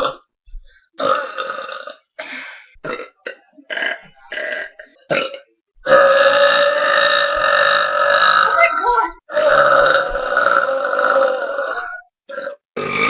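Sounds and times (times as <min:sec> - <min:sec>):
girl burping: 0:00.0 - 0:00.2, 0:01.0 - 0:13.0.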